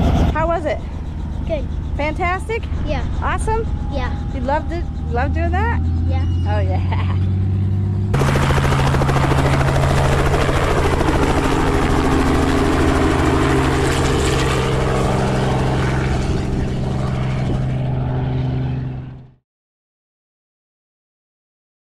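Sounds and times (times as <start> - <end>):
helicopter engine drone: 0.0 - 19.4
helicopter rotor beating: 0.0 - 19.4.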